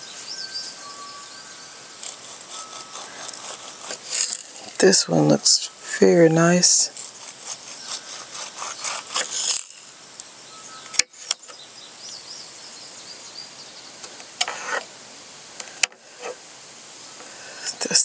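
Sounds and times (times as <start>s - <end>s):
faint birdsong: 0.0s - 14.8s.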